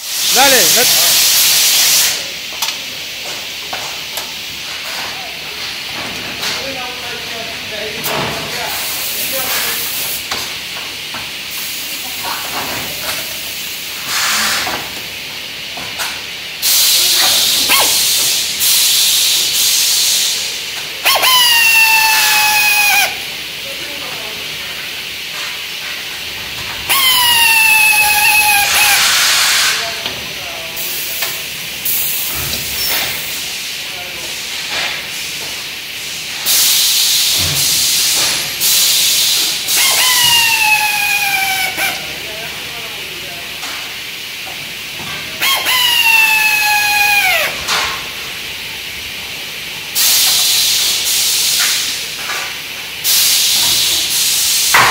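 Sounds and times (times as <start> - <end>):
air tool whining: 0.0 - 4.7, 6.6 - 48.5, 49.8 - 52.2, 53.0 - 54.9
compressed air hissing: 0.0 - 5.9, 7.8 - 54.9.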